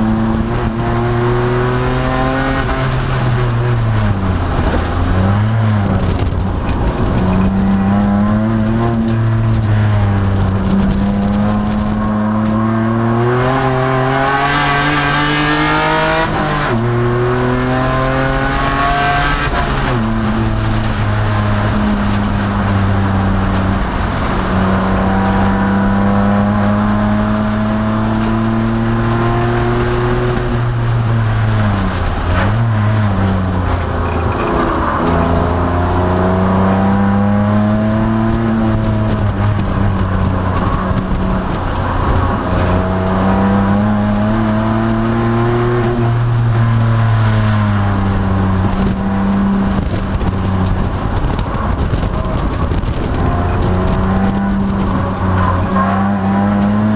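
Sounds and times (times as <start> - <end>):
car engine running hard: 0.0 - 56.9
road and wind noise: 0.0 - 56.9.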